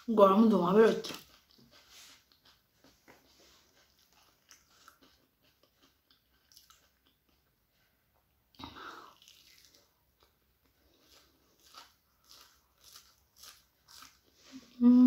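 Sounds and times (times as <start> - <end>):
faint chewing: 0.7 - 14.8.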